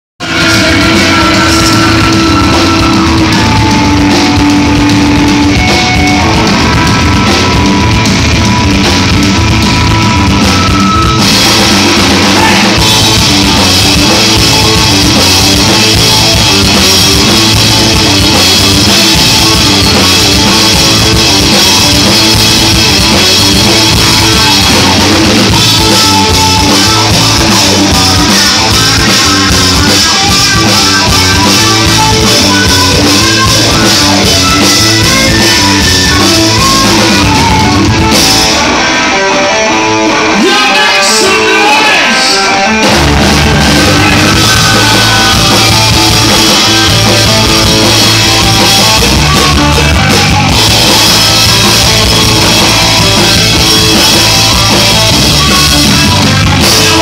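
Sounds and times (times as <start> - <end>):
bass guitar: 0.0 - 57.0
drum kit: 0.2 - 57.0
electric guitars: 0.2 - 57.0.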